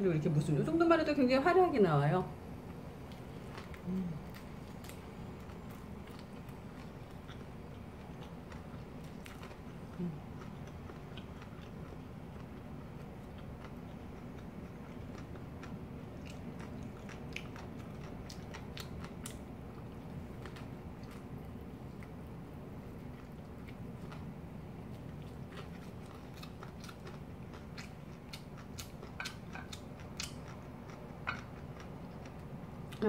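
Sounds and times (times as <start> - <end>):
chewing crisp food: 3.0 - 33.0.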